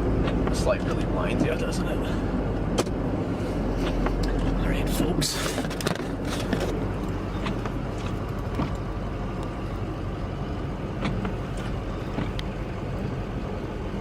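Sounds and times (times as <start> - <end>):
snowplow engine running: 0.0 - 14.0.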